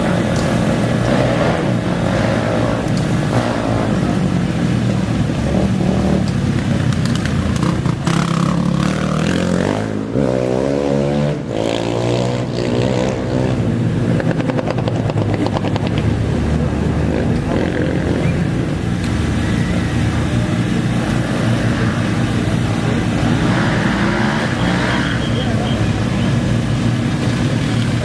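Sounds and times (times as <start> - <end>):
dirt bike and quad engines: 0.0 - 28.0
engine revving and accelerating: 0.0 - 28.0.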